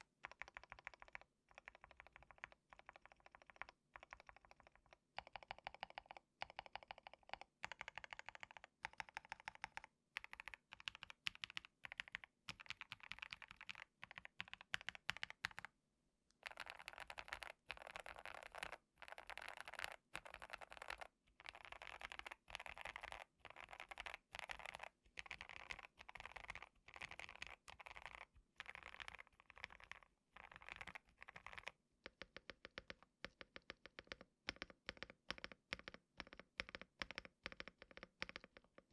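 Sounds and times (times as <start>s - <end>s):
mechanical keyboard typing: 0.2s - 15.7s, 16.4s - 38.9s.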